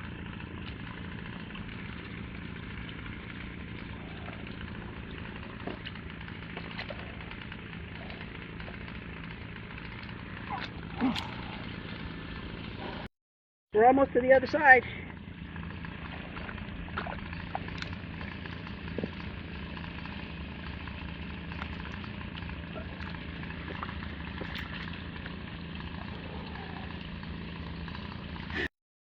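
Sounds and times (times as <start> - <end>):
low steady hum: 0.0 - 13.1, 13.8 - 28.7.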